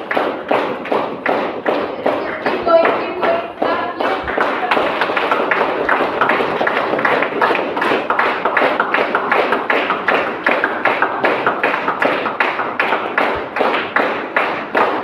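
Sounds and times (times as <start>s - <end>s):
rhythmic clapping: 0.0s - 15.0s.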